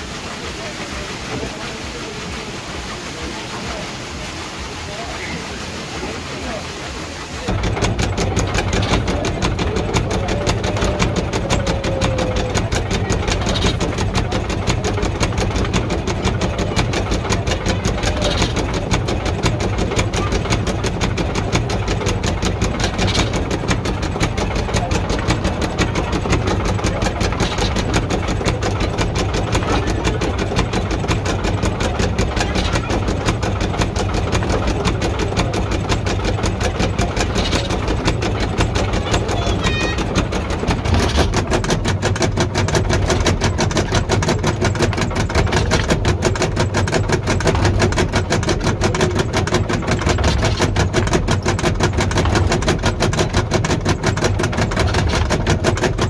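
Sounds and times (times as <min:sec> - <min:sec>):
bright click of mill wheel: 0:07.5 - 0:56.0
wooden gears clattering: 0:07.5 - 0:56.0.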